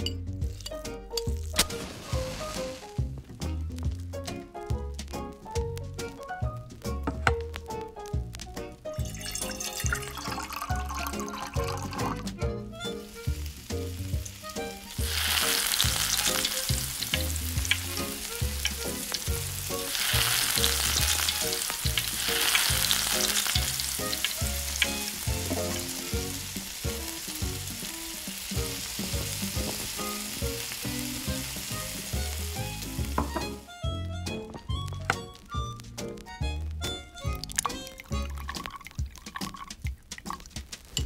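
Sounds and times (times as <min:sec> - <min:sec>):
chicken deep-frying in oil: 0:00.0 - 0:41.0.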